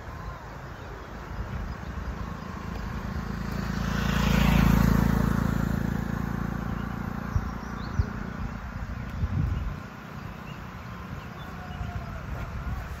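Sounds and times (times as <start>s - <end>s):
low engine hum: 0.0s - 13.0s
vehicle passing by: 0.0s - 13.0s.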